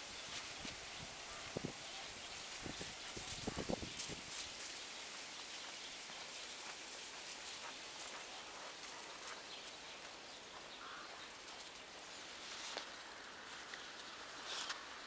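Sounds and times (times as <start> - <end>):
steady hiss: 0.0 - 15.0
dog paws crunching in snow: 0.2 - 14.9.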